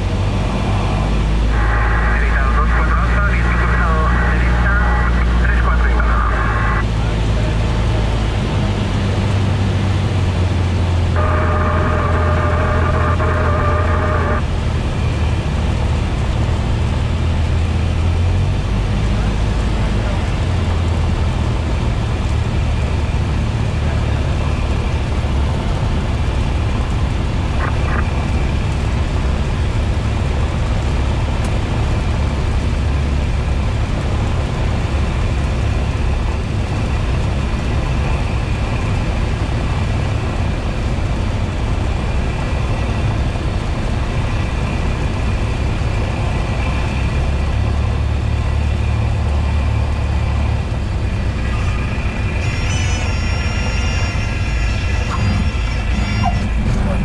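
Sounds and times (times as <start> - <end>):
airplane engine droning in cabin: 0.0 - 57.0.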